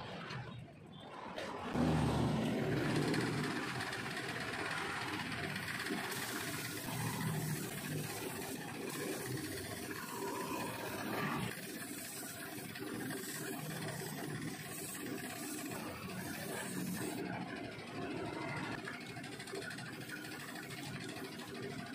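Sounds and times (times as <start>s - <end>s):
motorbike and scooter engines: 0.0s - 21.9s.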